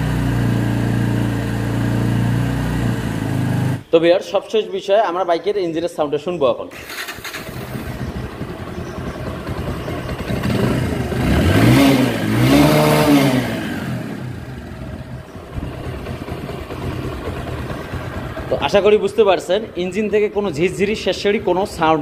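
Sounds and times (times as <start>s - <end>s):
motorcycle engine idling and revving: 0.0s - 3.9s, 6.8s - 22.0s.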